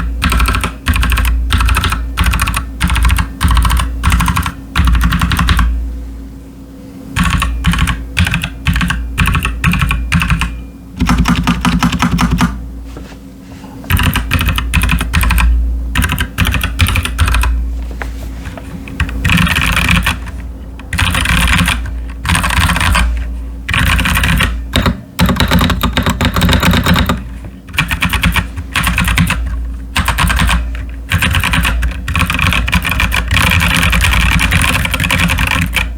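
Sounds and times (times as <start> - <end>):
typing on mechanical keyboard: 0.0 - 5.7, 7.2 - 12.6, 13.9 - 17.6, 18.4 - 35.9.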